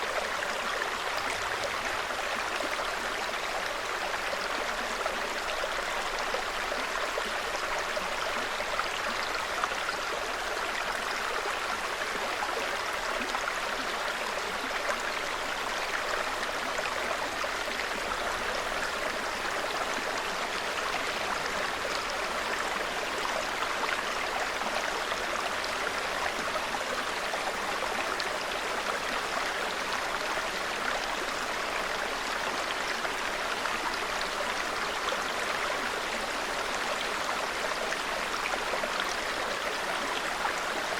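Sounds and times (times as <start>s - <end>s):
brook babbling: 0.0s - 40.9s.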